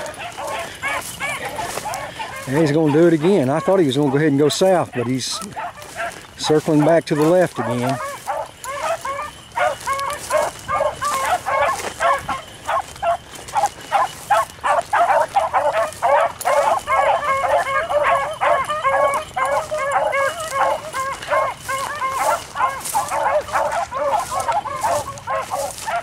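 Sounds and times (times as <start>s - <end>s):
hounds barking: 0.0s - 26.0s.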